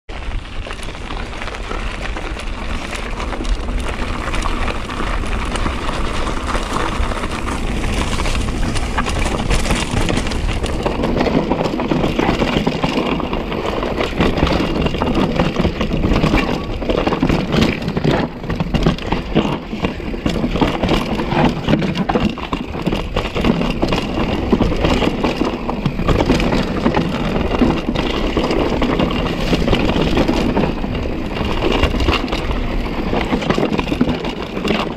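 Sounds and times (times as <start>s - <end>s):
bike rattling and clattering: 0.1s - 34.9s
bike tyres rolling over dirt and rock: 0.1s - 34.9s.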